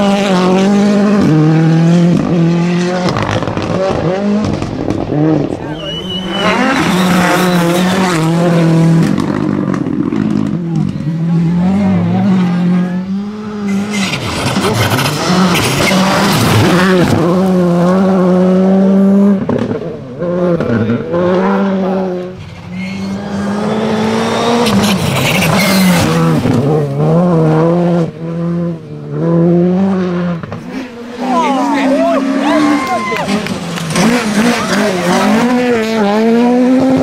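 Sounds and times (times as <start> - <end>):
rally car engine at high revs: 0.0 - 37.0.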